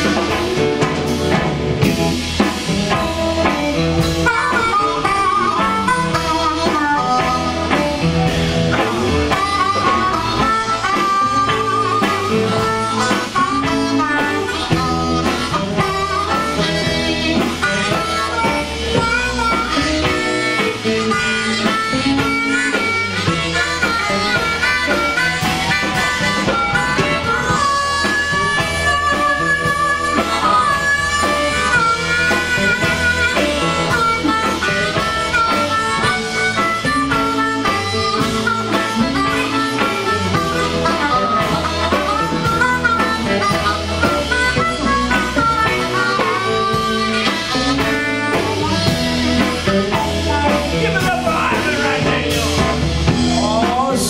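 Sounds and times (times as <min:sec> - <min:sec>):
blues harmonica solo: 0:00.0 - 0:54.0
electric blues band: 0:00.0 - 0:54.0.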